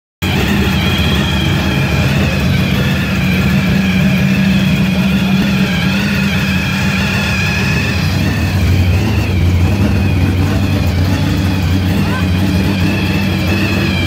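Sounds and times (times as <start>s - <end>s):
high supercharger whine: 0.2s - 14.0s
supercharged engine idling: 0.2s - 14.0s.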